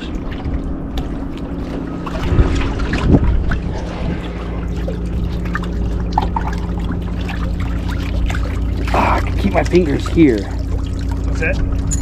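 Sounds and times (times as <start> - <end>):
steady low hum: 0.0 - 12.0
water trickling and splashing: 0.0 - 12.0.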